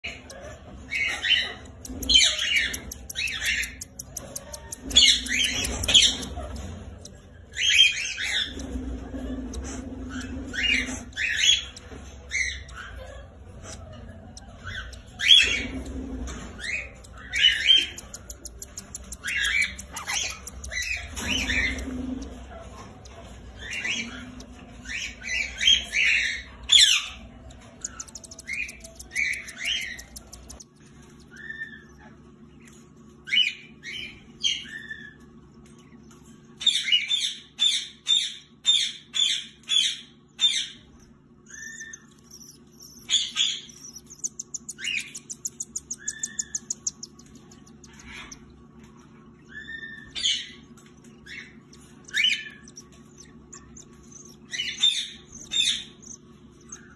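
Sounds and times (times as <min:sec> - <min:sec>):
chicks buzzing chatter: 0:00.0 - 0:56.9
cockatiels chirping and squawking: 0:00.0 - 0:56.9.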